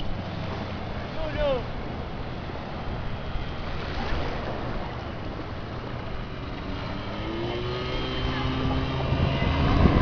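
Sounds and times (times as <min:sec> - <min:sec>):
surf: 0:00.0 - 0:10.0
wind: 0:00.0 - 0:10.0.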